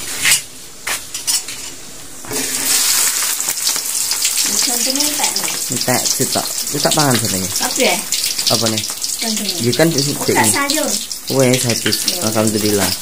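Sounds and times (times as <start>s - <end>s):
food sizzling in hot oil: 2.2s - 13.0s.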